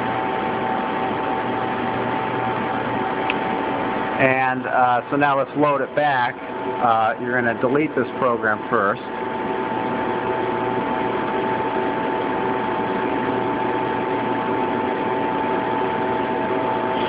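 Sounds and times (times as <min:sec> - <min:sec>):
machinery humming with whine: 0:00.0 - 0:17.0.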